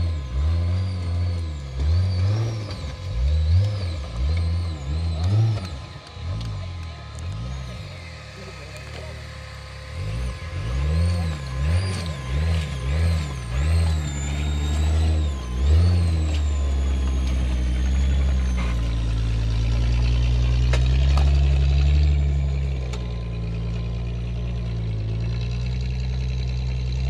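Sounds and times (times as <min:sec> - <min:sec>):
buggy engine revving: 0:00.0 - 0:27.0.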